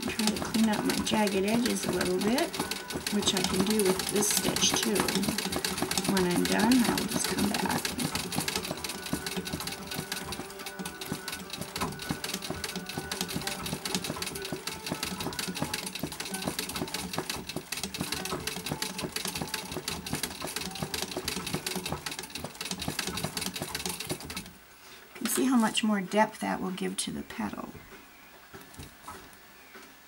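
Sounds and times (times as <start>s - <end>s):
sewing machine needle clattering: 0.0s - 24.6s.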